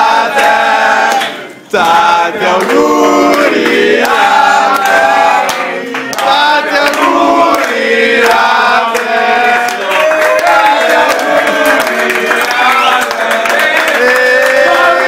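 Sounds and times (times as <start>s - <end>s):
teenagers singing in chorus: 0.0s - 15.0s
hand clapping: 0.4s - 2.0s, 2.6s - 15.0s.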